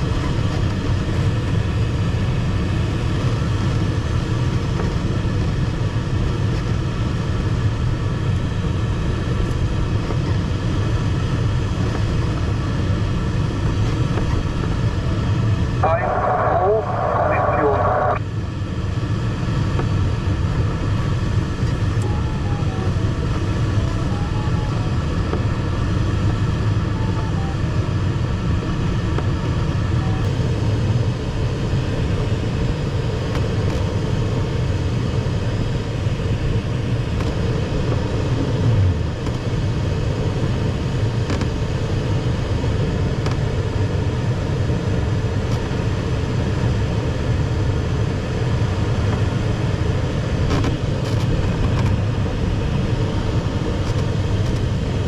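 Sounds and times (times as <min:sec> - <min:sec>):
airflow rushing in cockpit: 0:00.0 - 0:55.0.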